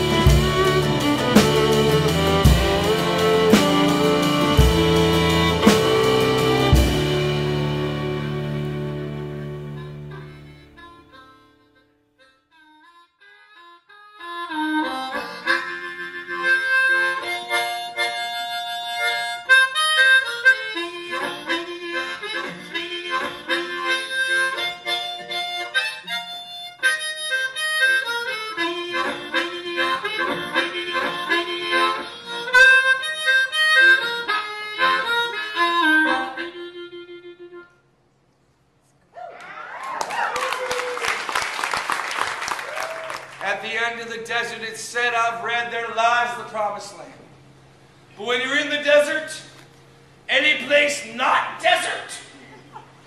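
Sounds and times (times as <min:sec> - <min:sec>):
harmonica playing chords: 0:00.0 - 0:38.2, 0:43.4 - 0:53.0.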